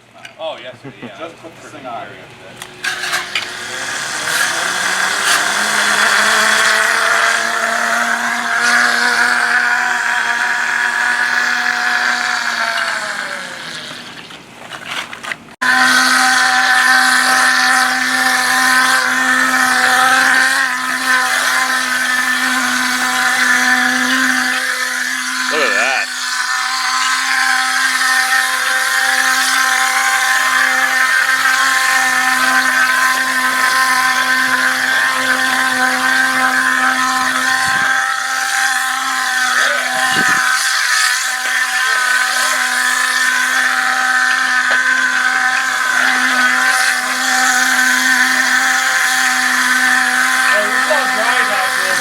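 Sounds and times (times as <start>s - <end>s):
motor humming: 2.6s - 52.0s.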